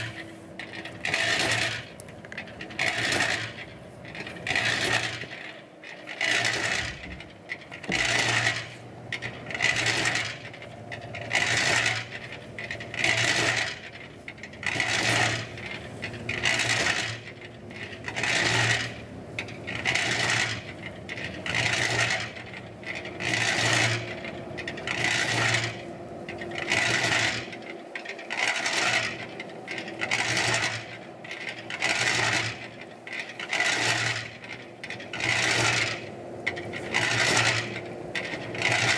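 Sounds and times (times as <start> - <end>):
low motor hum: 0.0 - 38.9
mixer load rattling and scraping: 0.0 - 38.9.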